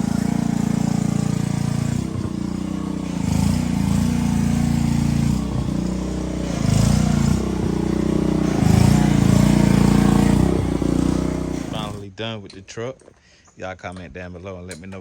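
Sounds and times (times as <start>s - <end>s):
engine running: 0.0s - 12.1s.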